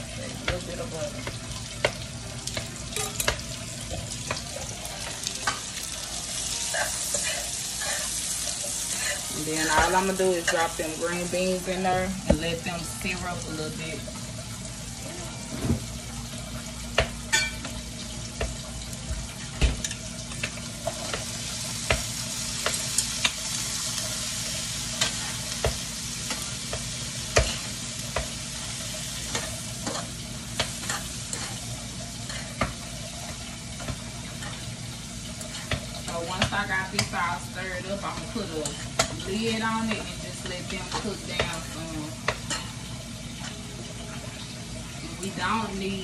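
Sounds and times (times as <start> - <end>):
green beans sizzling in a pan: 0.0 - 46.0.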